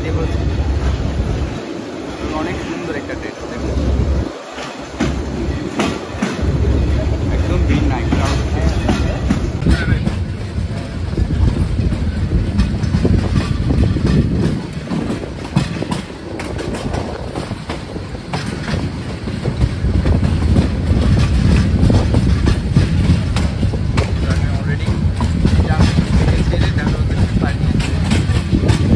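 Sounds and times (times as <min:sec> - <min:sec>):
train wheels rumbling on rail: 0:00.0 - 0:28.9
wheels clacking over rail joints: 0:00.0 - 0:28.9.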